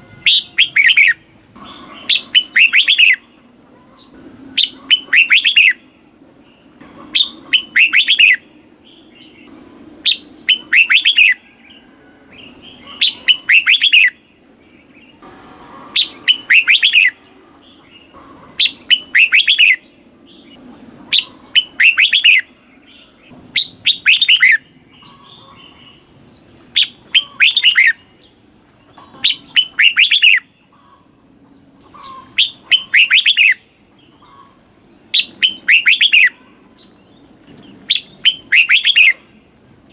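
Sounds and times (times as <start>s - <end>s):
bulbul singing: 0.0s - 15.3s, 15.9s - 39.9s.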